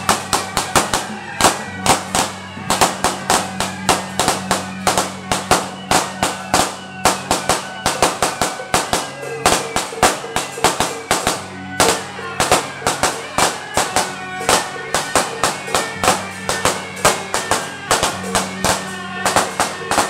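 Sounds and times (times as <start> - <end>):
gongs and cymbals clashing: 0.0 - 20.0.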